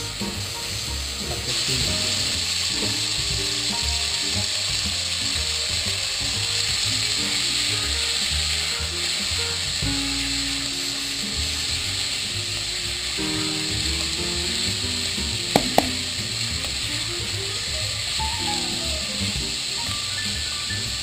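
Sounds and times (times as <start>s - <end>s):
background music: 0.0s - 21.0s
meat and onions sizzling in oil: 0.0s - 21.0s.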